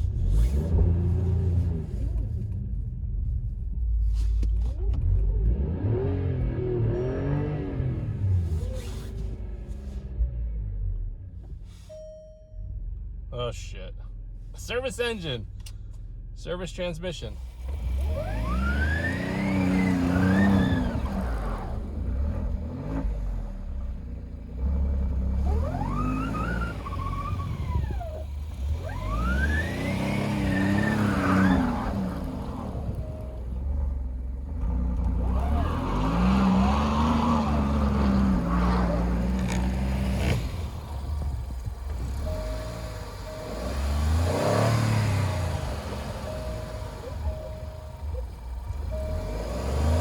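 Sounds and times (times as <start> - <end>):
car engine revving: 0.0 - 11.8, 17.1 - 50.0.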